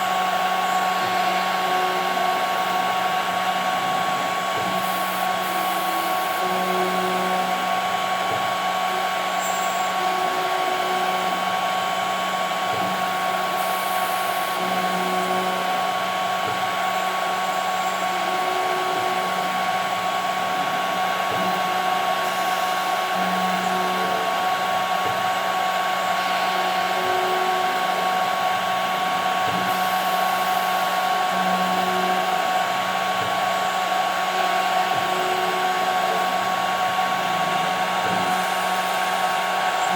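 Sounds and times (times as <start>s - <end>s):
low machine hum: 0.0s - 39.9s
machine spindle high whine: 0.0s - 39.9s.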